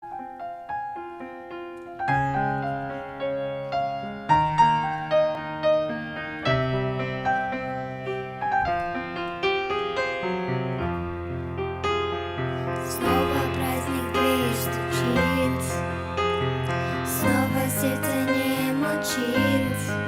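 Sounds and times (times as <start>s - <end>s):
slow piano hymn introduction: 0.0s - 20.0s.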